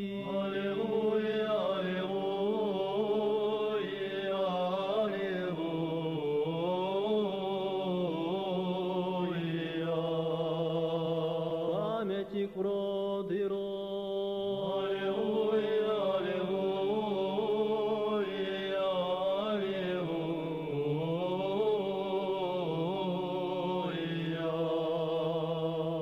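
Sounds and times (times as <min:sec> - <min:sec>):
men's choir chanting: 0:00.0 - 0:26.0.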